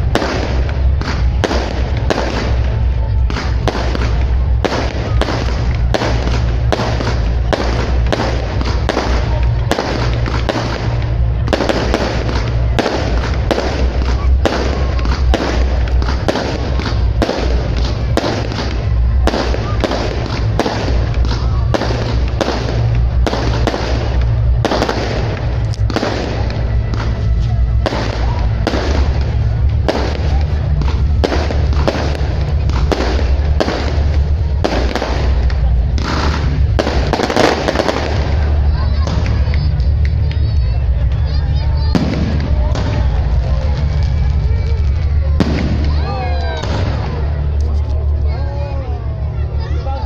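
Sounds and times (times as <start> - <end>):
fireworks bursting: 0.0 - 48.3
low rumble: 0.0 - 50.0.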